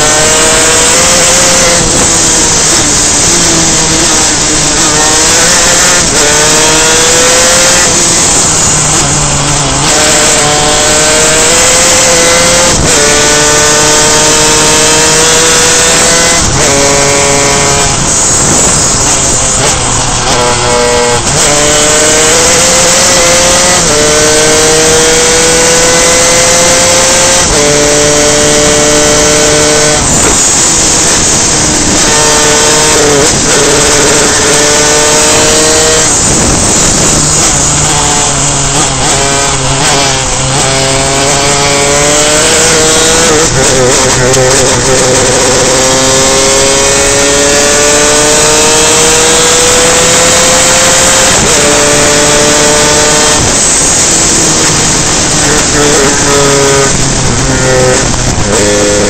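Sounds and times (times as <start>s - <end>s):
two-stroke kart engine racing: 0.0s - 59.0s.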